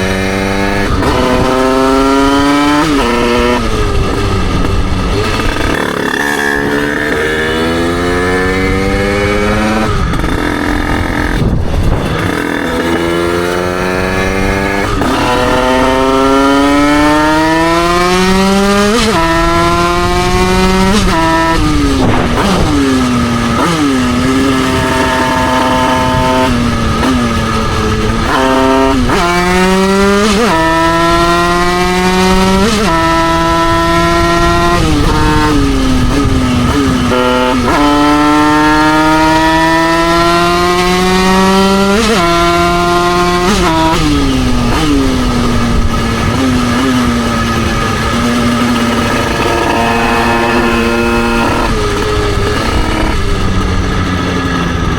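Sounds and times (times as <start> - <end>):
two-stroke motorcycle engine revving: 0.0 - 54.9.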